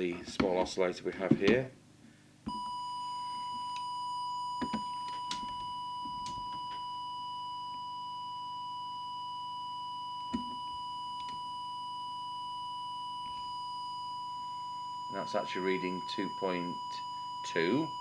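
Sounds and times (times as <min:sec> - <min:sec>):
steady test tone: 0:02.5 - 0:18.0.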